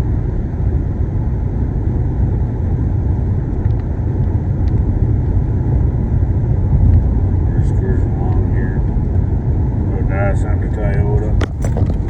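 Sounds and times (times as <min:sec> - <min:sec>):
car driving at highway speed: 0:00.0 - 0:12.0.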